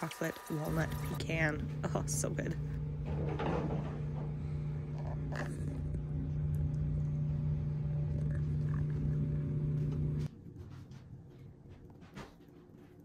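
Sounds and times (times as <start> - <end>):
refrigerator humming: 0.3 - 13.0.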